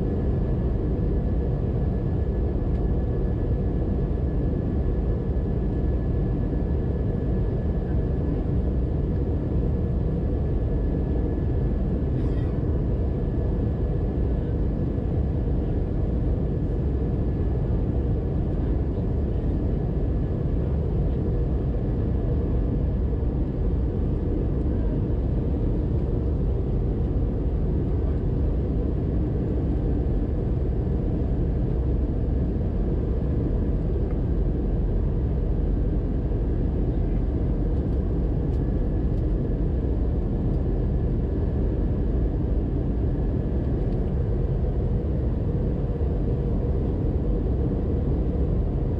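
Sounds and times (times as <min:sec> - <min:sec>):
airliner cabin engine and airflow: 0:00.0 - 0:48.9.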